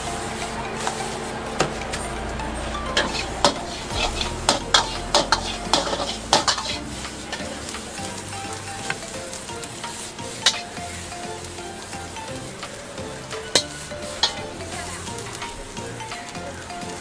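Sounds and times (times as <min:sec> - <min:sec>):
rice sizzling in a wok: 0:00.0 - 0:17.0
metal ladle clanging on wok: 0:02.9 - 0:17.0.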